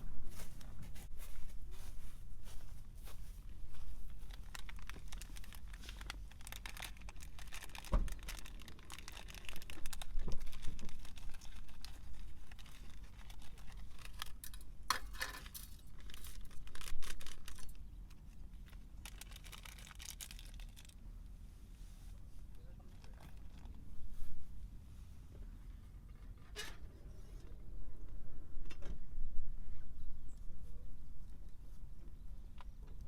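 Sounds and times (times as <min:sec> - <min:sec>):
crackling and crinkling: 0:00.0 - 0:26.8.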